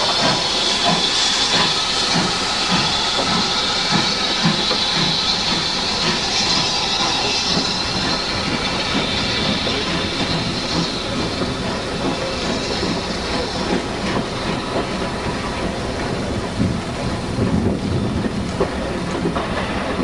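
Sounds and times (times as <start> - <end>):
hiss of steam: 0.0 - 20.0
steam locomotive exhaust beating: 0.0 - 20.0.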